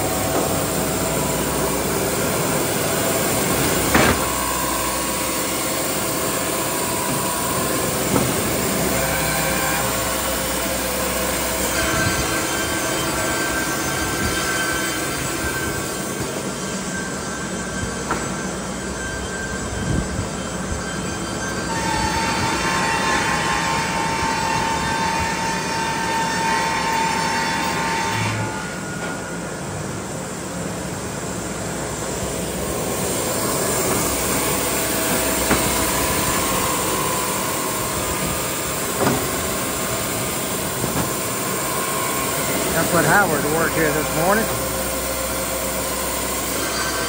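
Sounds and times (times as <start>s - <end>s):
band saw blade whining: 0.0s - 29.5s, 32.0s - 47.0s.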